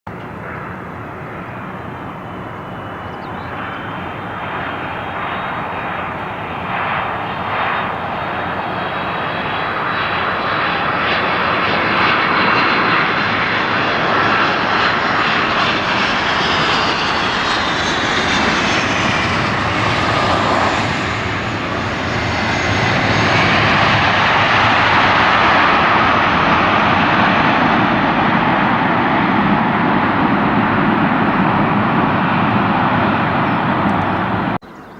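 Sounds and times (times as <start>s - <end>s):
airliner engines rushing: 0.1s - 34.9s.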